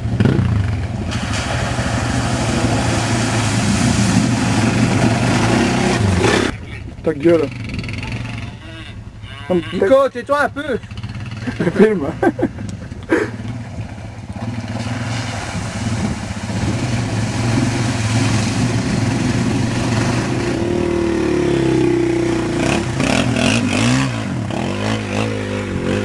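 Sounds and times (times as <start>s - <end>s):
quad engine revving: 0.0s - 8.7s, 10.7s - 26.0s.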